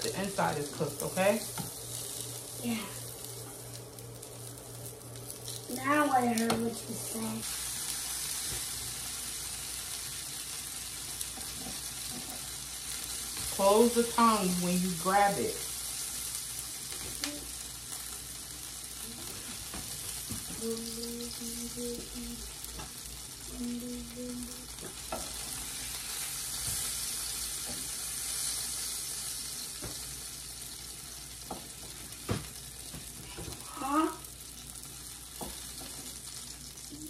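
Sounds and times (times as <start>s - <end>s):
sausages sizzling on a griddle: 0.0s - 37.0s.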